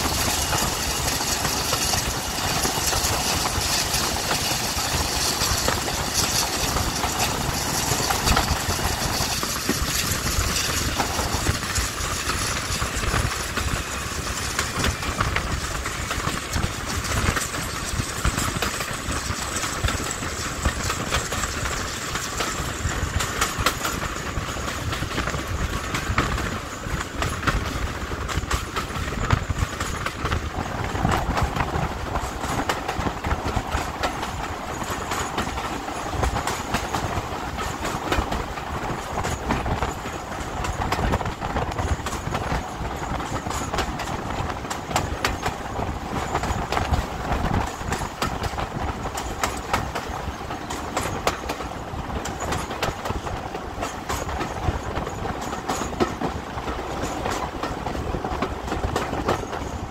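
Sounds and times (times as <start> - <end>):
diesel train rumbling: 0.0 - 59.9.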